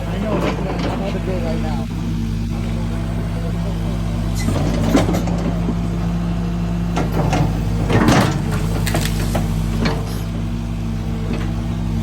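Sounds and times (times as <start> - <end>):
heavy machine engine running: 0.0 - 12.0.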